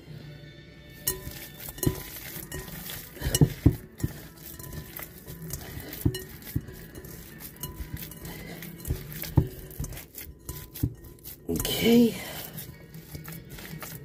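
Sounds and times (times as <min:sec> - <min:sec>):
hands squishing meat mixture: 0:01.0 - 0:14.0
knocks and clinks against glass bowl: 0:01.0 - 0:14.0.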